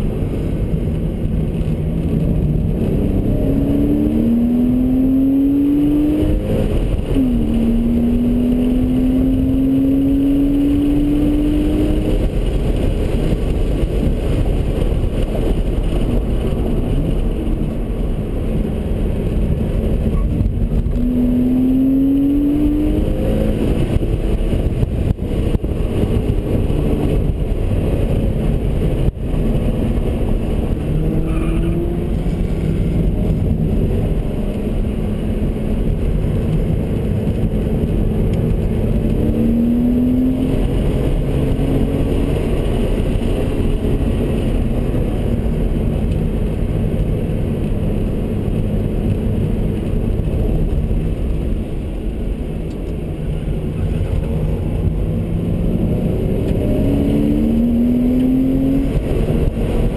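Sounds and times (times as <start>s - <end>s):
car engine accelerating: 0.0s - 59.9s
wind and road noise: 0.0s - 59.9s.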